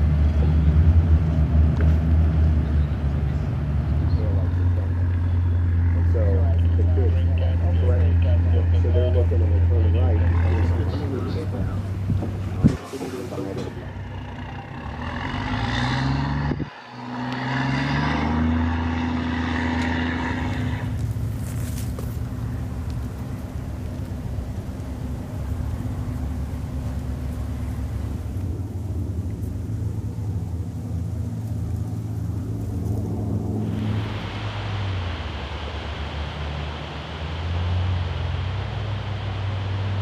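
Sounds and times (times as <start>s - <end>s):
vehicle engines droning on water: 0.0s - 40.0s.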